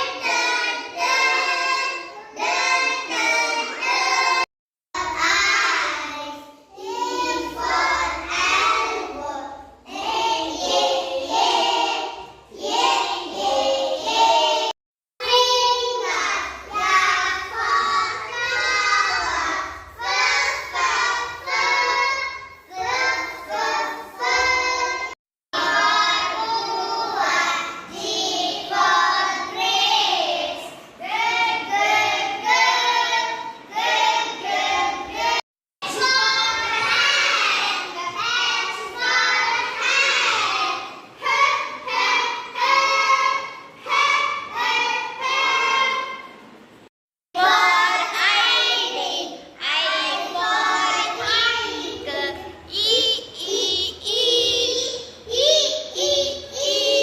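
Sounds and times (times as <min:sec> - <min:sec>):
young children singing together: 0:00.0 - 0:57.0.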